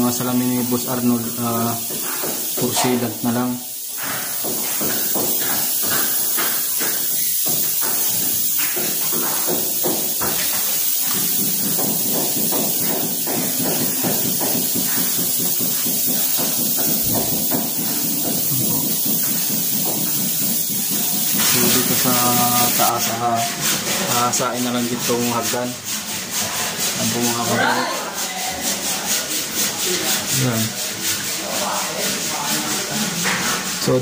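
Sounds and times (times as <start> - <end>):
steady hiss: 0.0 - 27.6
footsteps: 0.0 - 34.0.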